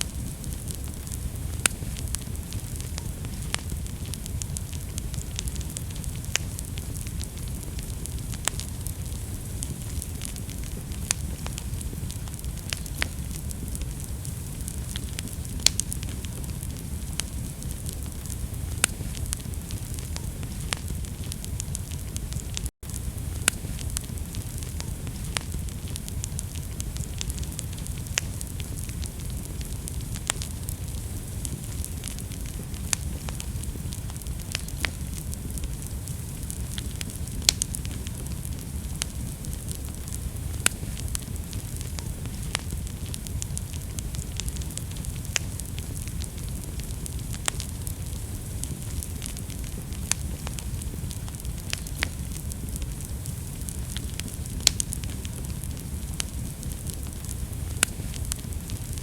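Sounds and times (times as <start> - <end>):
fire crackling in fireplace: 0.0 - 59.0.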